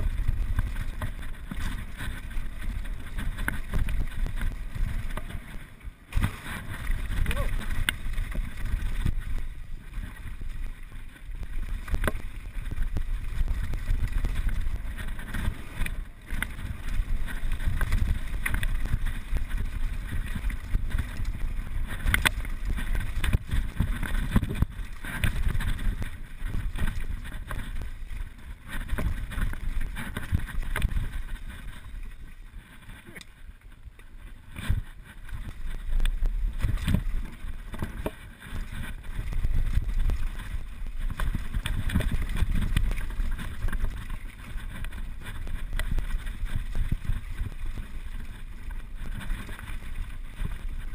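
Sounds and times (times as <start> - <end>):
wind rushing over microphone: 0.0 - 33.2, 34.2 - 50.9
bike rattling: 0.0 - 50.9
tyres on loose gravel: 0.0 - 50.9.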